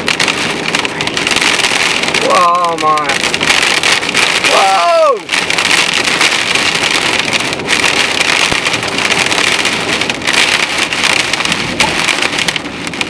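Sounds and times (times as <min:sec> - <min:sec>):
hail clattering on ground: 0:00.0 - 0:13.0.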